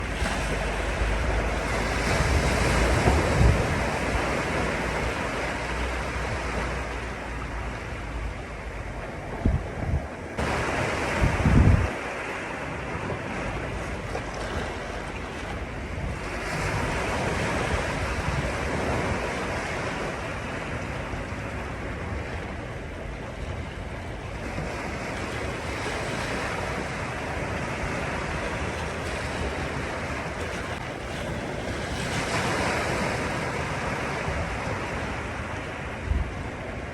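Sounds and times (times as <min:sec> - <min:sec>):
sea waves on beach: 0:00.0 - 0:36.9
wind rumbling on microphone: 0:00.0 - 0:36.9.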